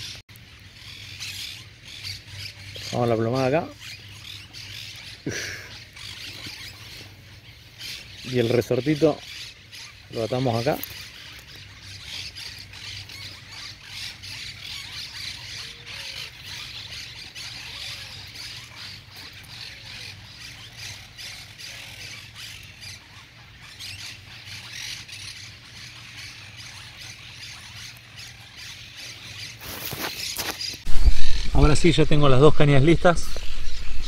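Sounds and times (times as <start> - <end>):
birds squawking and chirping: 0.0 - 34.0
steady high-pitched hiss: 0.0 - 34.0.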